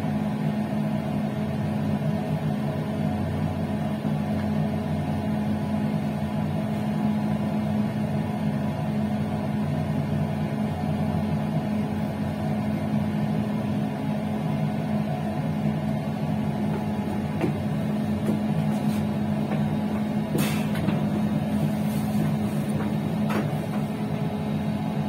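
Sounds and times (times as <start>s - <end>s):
train hum and rumble: 0.0s - 25.0s.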